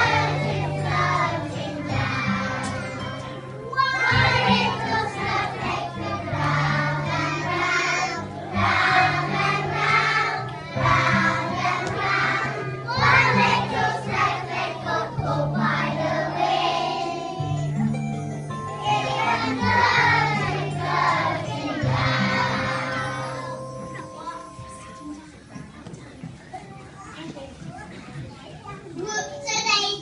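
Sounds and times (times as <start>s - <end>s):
backing music with bass notes: 0.0s - 25.2s
children's choir singing: 0.0s - 26.0s.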